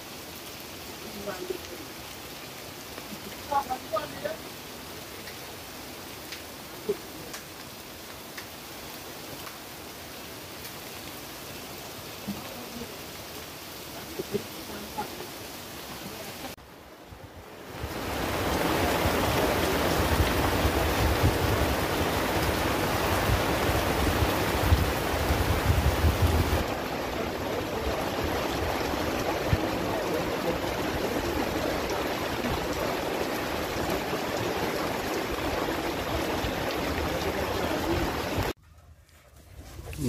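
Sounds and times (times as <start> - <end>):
heavy rain on shelter: 0.0 - 38.6.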